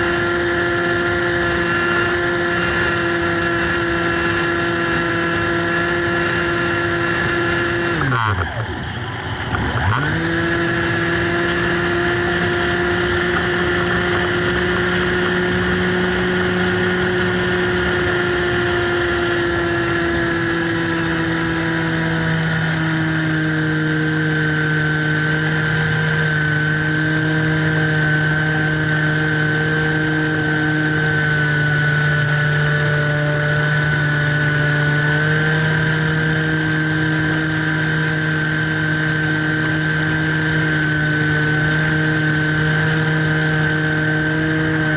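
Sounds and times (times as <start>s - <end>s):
model plane motor whining: 0.0s - 44.9s.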